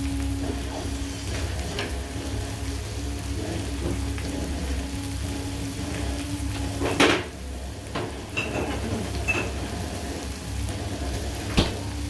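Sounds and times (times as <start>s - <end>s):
chicken frying in oil: 0.0s - 12.0s.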